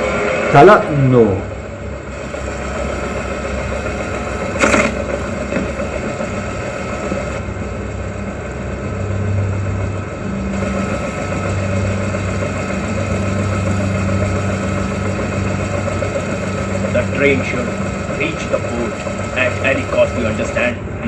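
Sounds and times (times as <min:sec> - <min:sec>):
engine rumble: 0:00.0 - 0:21.0.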